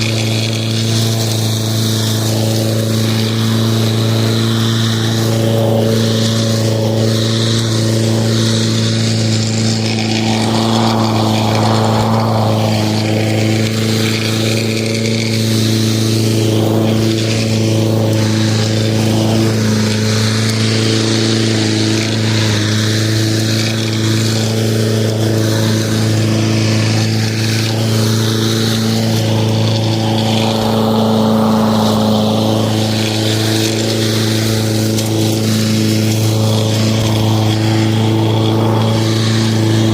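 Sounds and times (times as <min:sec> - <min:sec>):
lawn mower running: 0:00.0 - 0:39.9
rushing hiss: 0:00.0 - 0:39.9.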